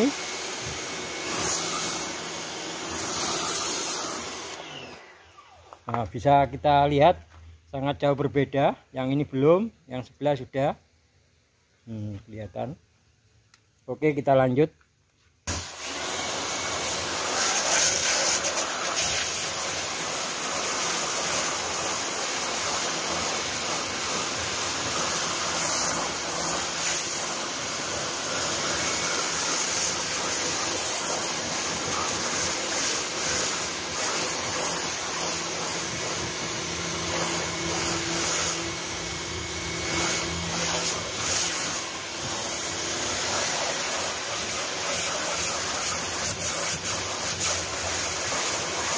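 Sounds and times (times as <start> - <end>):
pressure washer spraying water: 0.0 - 5.8, 15.5 - 48.9.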